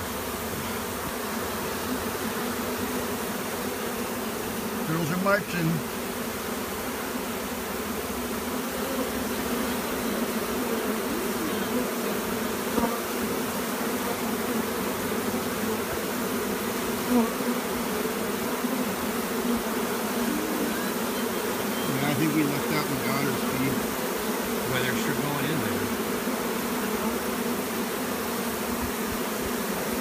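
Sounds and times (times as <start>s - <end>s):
honey bee swarm buzzing: 0.0s - 30.0s.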